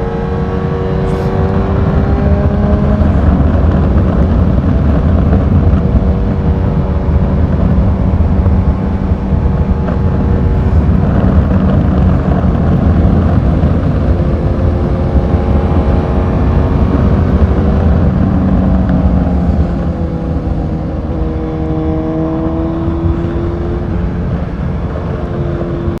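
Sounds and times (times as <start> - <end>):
motorcycle engine revving: 0.0 - 26.0
wind rush on microphone: 0.0 - 26.0.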